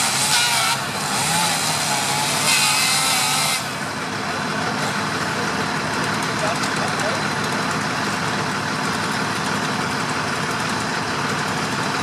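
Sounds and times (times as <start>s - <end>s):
fire engine humming: 0.0s - 12.0s.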